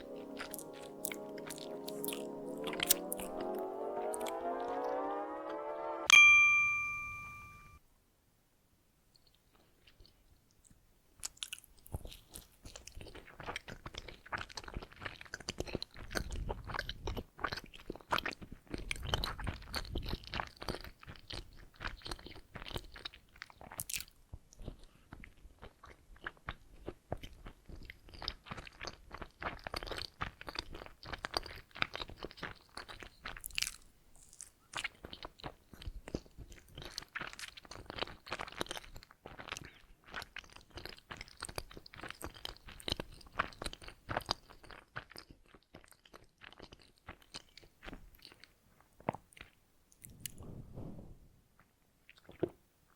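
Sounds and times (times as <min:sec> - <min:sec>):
chewing and biting donuts: 0:00.0 - 0:04.4, 0:11.2 - 0:50.4.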